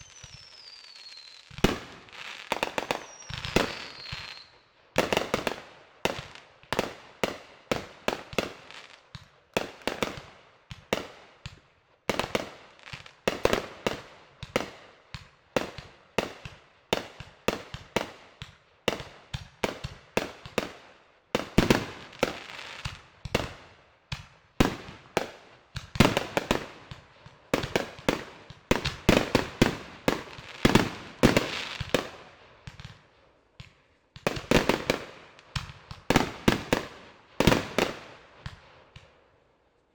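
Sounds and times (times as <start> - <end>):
fireworks bangs and crackles: 0.0 - 39.2.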